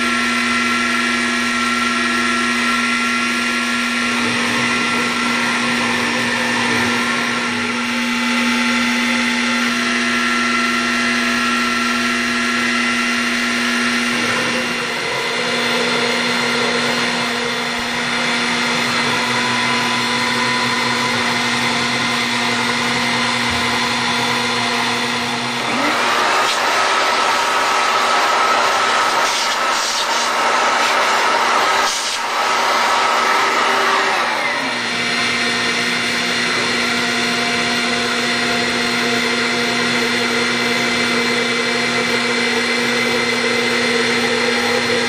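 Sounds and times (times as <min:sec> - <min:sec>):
milling machine whine: 0:00.0 - 0:45.0.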